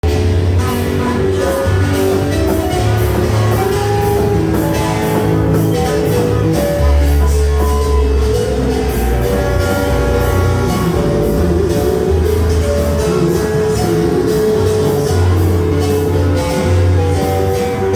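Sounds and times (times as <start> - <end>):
bass line: 0.0 - 17.9
guitar: 0.0 - 17.9
steady drum beat: 0.0 - 17.9
worship music: 0.0 - 17.9.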